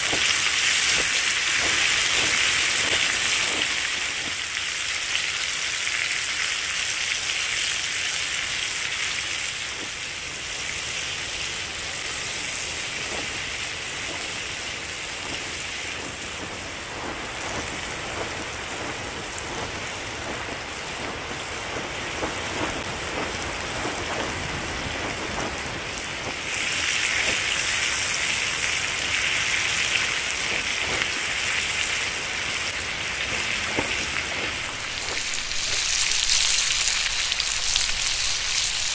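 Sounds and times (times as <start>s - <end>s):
vegetables sizzling in oil: 0.0s - 38.9s.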